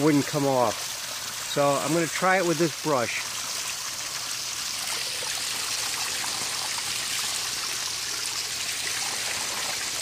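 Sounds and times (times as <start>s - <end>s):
water running over rocks: 0.0s - 10.0s.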